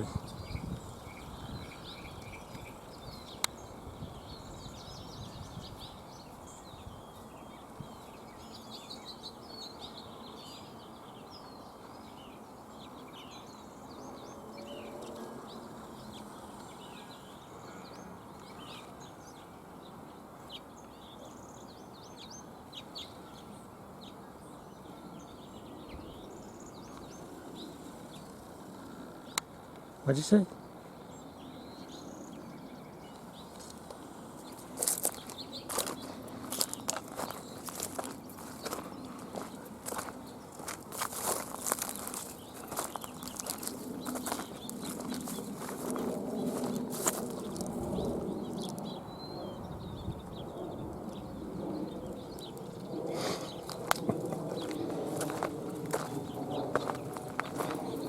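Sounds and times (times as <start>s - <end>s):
outdoor background noise: 0.0s - 58.0s
small birds chirping: 0.0s - 58.0s.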